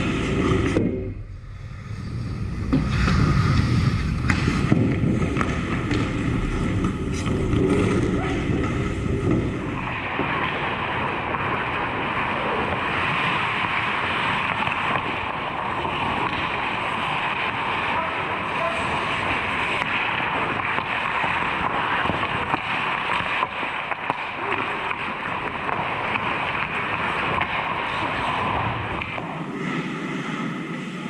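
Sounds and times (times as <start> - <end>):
ice rink hockey play noise: 0.0 - 31.0.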